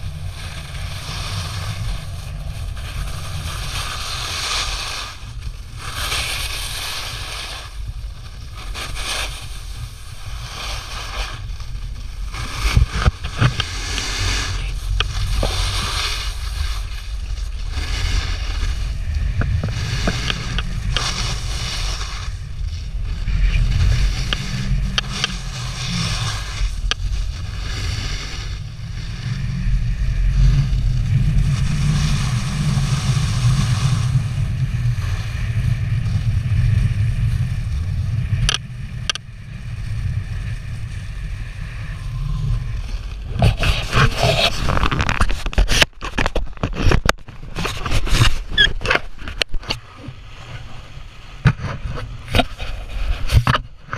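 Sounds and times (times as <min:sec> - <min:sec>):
snowboard edges scraping snow: 0:00.0 - 0:53.9
wind buffeting microphone: 0:00.0 - 0:53.9.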